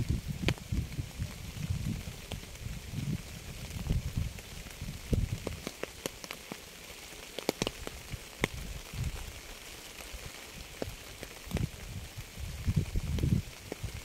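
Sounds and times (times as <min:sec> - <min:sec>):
rain hissing: 0:00.0 - 0:14.0
raindrops ticking on hard surface: 0:00.0 - 0:14.0.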